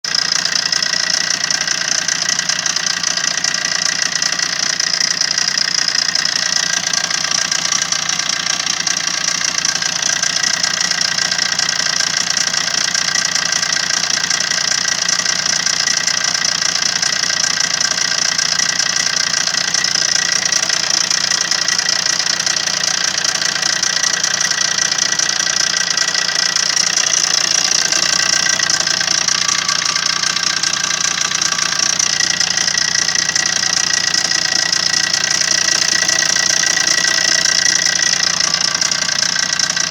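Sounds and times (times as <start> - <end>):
diesel engine idling: 0.0 - 39.9
rapid engine knock: 0.0 - 39.9.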